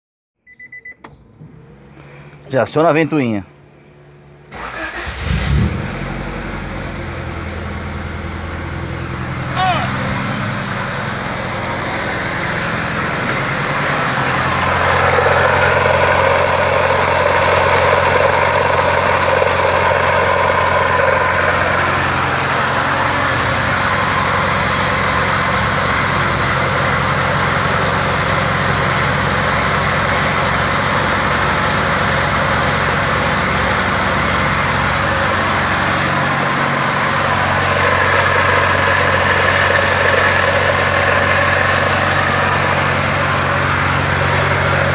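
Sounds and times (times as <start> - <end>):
car engine idling: 0.6 - 44.9.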